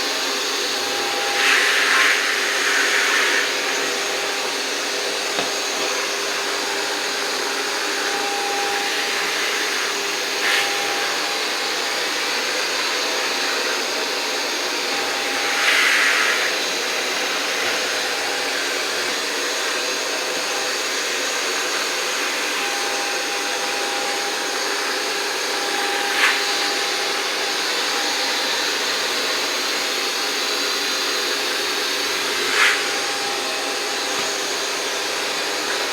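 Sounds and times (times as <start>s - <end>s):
robot vacuum whirring: 0.0s - 35.9s.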